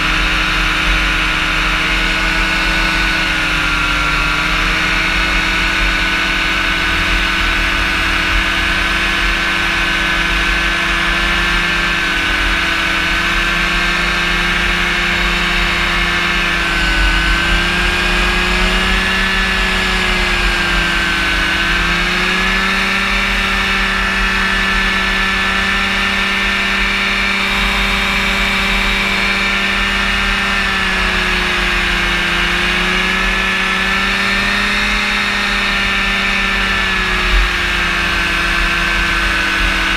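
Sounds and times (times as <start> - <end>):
light aircraft engine cruising: 0.0 - 39.9.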